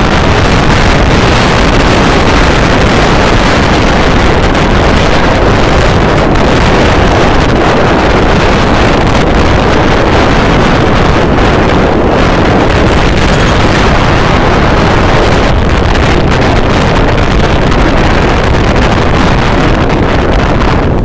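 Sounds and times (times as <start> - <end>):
motorcycle riding rush: 0.0 - 21.0
wind buffeting microphone: 0.0 - 21.0.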